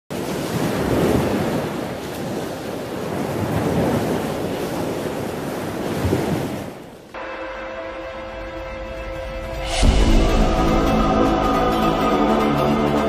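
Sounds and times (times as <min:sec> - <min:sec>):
ocean waves washing in: 0:00.1 - 0:13.0.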